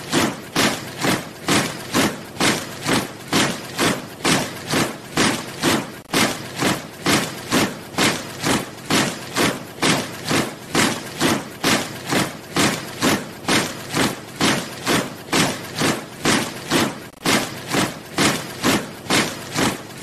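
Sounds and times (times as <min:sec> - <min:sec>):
soldiers marching in step: 0:00.0 - 0:20.0.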